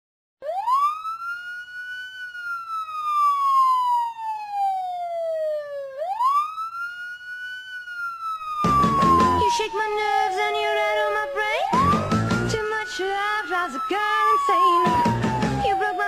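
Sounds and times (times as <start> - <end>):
siren wailing: 0.4 - 16.0.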